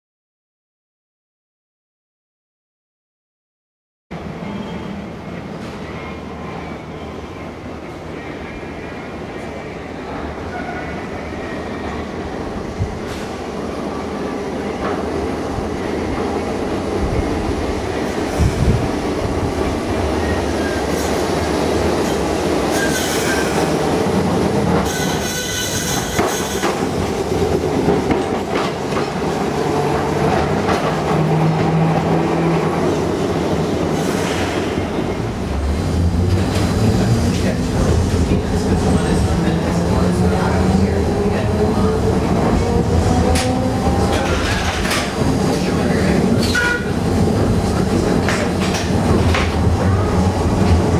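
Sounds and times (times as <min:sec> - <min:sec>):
streetcar running on track: 0:04.2 - 0:50.9.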